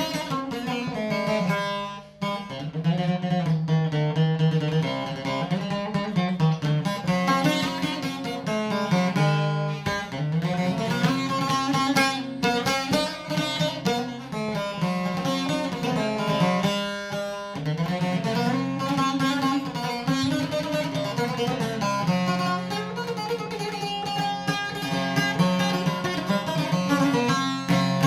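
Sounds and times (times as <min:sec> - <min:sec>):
plucked lute melody with drone: 0:00.0 - 0:28.0.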